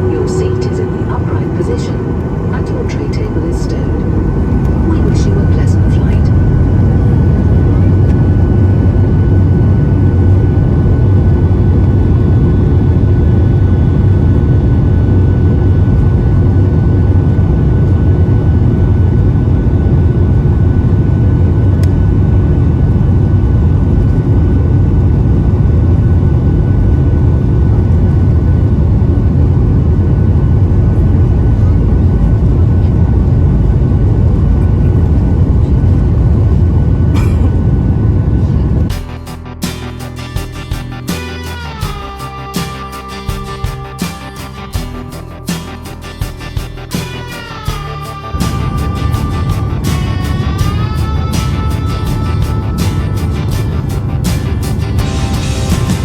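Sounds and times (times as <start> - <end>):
airliner cabin engine rumble: 0.0 - 56.0
faint steady whines: 0.0 - 56.0.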